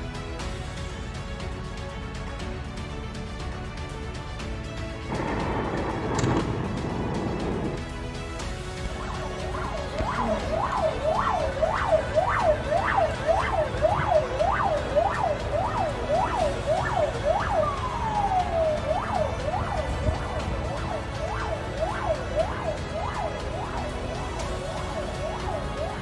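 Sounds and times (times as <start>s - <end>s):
emergency siren yelping: 5.1s - 26.0s.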